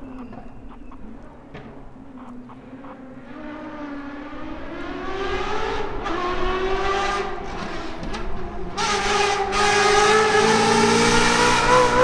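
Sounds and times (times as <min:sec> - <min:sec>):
rally car engine accelerating: 0:02.0 - 0:12.0.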